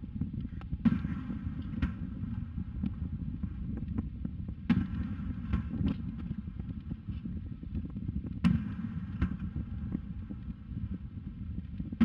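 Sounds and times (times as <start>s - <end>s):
low rumble: 0.0s - 12.0s
small fireworks pops: 0.0s - 12.0s
distant fireworks booming: 0.7s - 12.0s.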